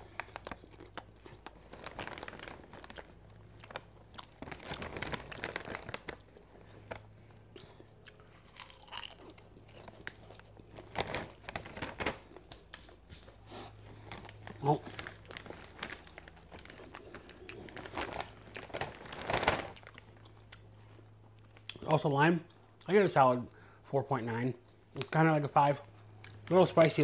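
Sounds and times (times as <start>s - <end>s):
person chewing popcorn: 0.0s - 21.9s, 26.0s - 26.6s
low steady hum: 0.0s - 27.0s.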